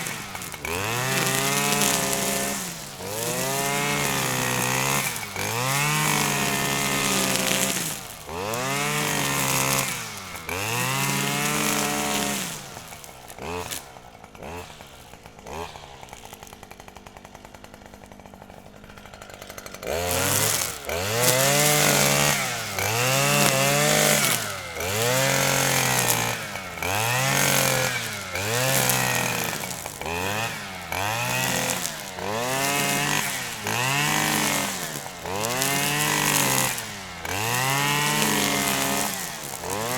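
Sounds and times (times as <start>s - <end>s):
grass trimmer engine revving: 0.0s - 39.9s.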